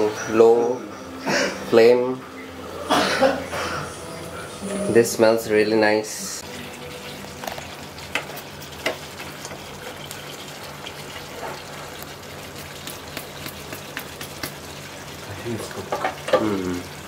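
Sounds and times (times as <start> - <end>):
food sizzling in a pot: 1.7 - 17.0.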